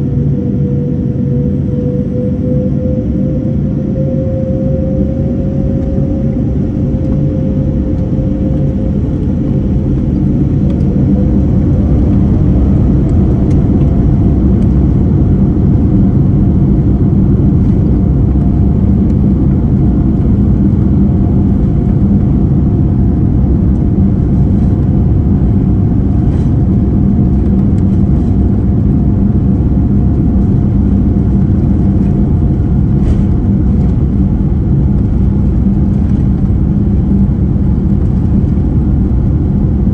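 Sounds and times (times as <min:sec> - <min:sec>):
jet engines spooling up: 0:00.0 - 0:39.4
loud steady rumble: 0:00.0 - 0:39.9
rising engine whine: 0:00.0 - 0:39.9.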